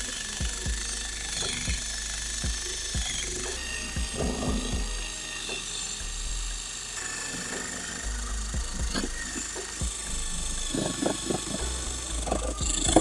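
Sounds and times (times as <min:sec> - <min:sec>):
background music with a beat: 0:00.0 - 0:13.0
drill wire brush scrubbing rust: 0:00.0 - 0:13.0.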